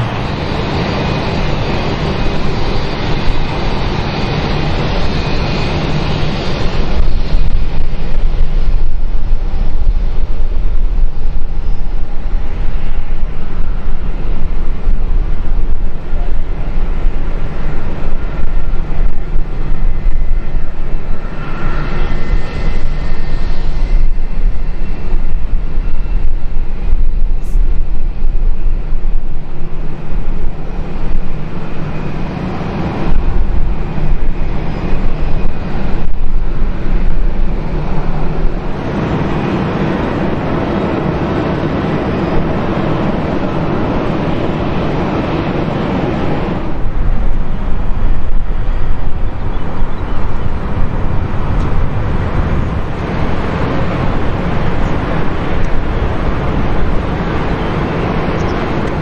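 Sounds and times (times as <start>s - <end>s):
jet engines rushing: 0.0s - 59.0s.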